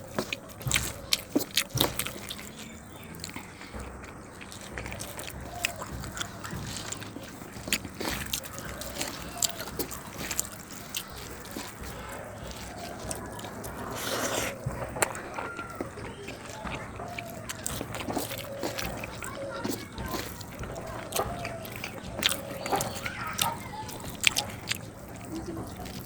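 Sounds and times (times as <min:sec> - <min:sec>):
wet squelching eating: 0:00.0 - 0:26.0.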